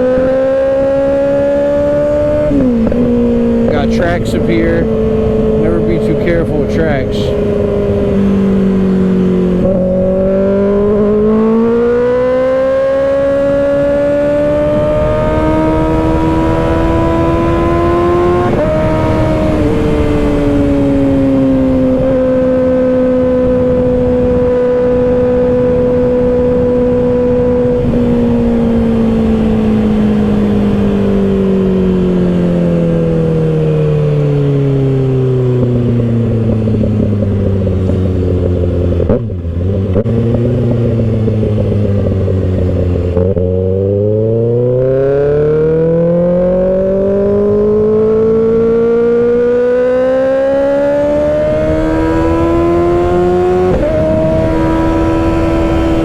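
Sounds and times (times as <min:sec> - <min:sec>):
motorcycle engine while riding: 0:00.0 - 0:56.0
wind noise: 0:00.0 - 0:56.0.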